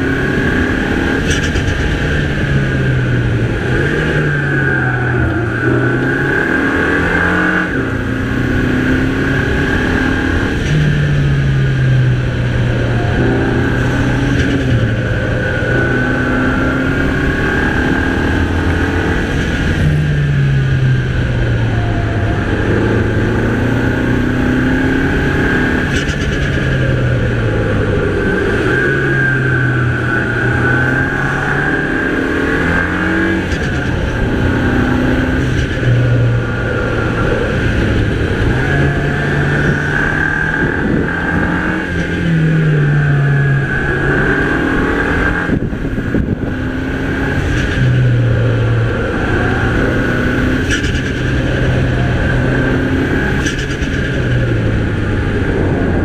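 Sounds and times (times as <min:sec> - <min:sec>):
car engine revving: 0:00.0 - 0:56.0
high turbo whine: 0:00.0 - 0:56.0.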